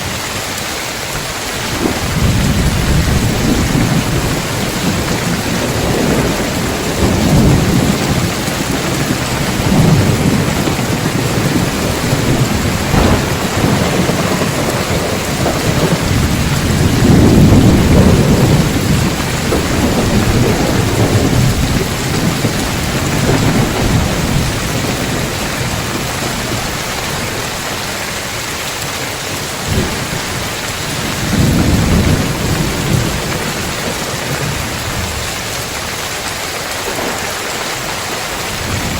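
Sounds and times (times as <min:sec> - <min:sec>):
heavy rain on roof tiles: 0:00.0 - 0:38.9
thunder rumbling: 0:00.0 - 0:38.9.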